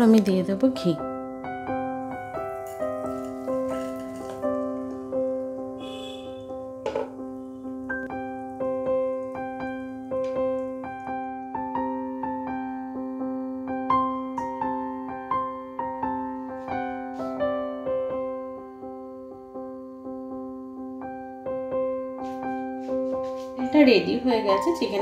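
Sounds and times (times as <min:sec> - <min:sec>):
gentle piano melody: 0:00.0 - 0:25.0
held low piano chord: 0:00.0 - 0:25.0.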